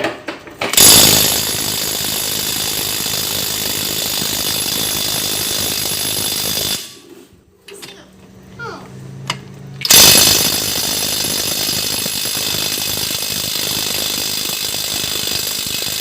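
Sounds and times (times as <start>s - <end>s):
impact wrench rattling: 0.0s - 7.0s, 9.3s - 16.0s.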